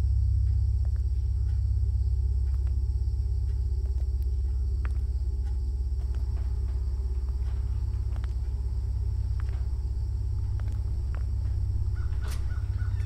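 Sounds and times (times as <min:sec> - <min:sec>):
low fluttering rumble: 0:00.0 - 0:13.0
high chirring: 0:01.1 - 0:13.0.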